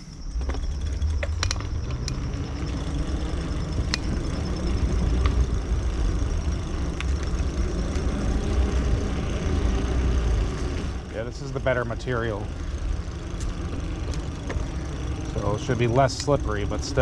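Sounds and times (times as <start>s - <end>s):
bike clicks and rattles: 0.0s - 17.0s
bike riding rumble on trail: 0.0s - 17.0s
insects trilling: 0.0s - 17.0s.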